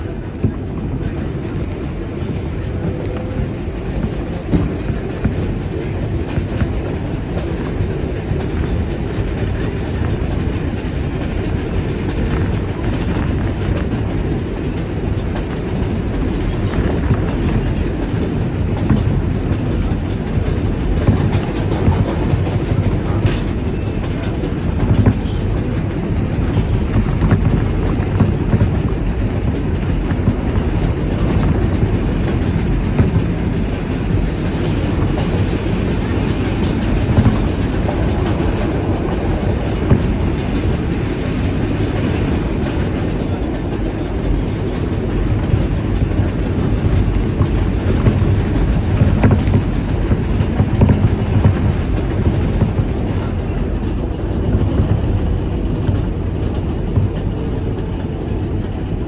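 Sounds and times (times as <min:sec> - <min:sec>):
train rumbling on rails: 0:00.0 - 0:59.0
wheels clacking over rail joints: 0:00.0 - 0:59.0.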